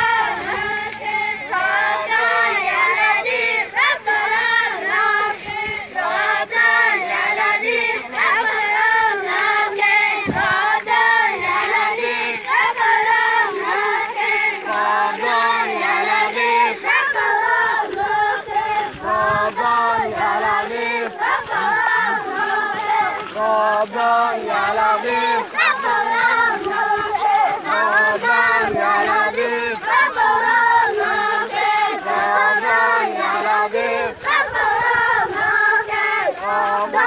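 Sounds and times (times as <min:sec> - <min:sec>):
children chanting and singing: 0:00.0 - 0:37.0.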